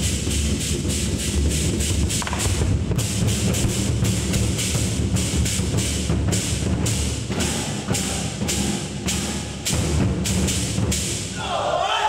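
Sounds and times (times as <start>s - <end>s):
large drums beaten with sticks: 0.0s - 11.4s.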